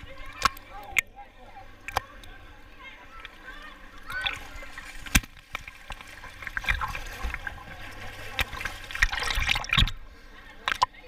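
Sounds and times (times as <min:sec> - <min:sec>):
pool water splashing: 0:00.0 - 0:11.0.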